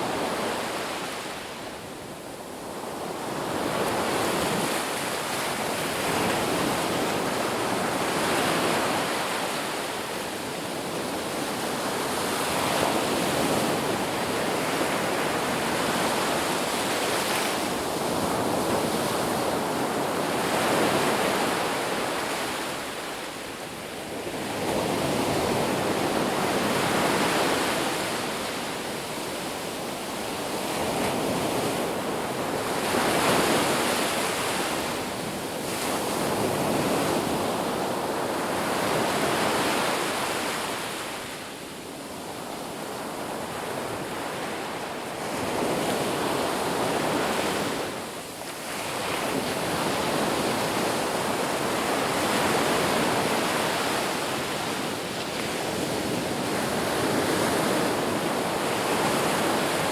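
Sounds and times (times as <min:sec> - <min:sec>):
ocean surf washing on beach: 0:00.0 - 0:59.9.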